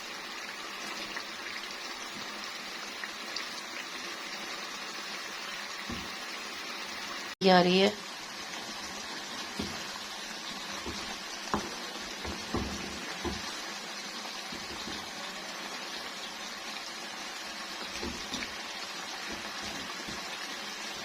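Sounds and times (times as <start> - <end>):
food sizzling and bubbling in a pot: 0.0 - 21.0.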